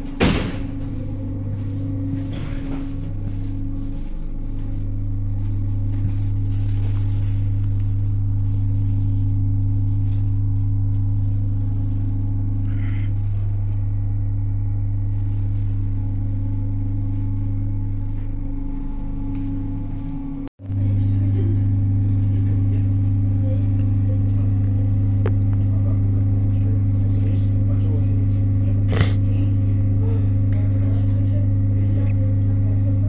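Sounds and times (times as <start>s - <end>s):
electric train humming: 0.0s - 33.0s.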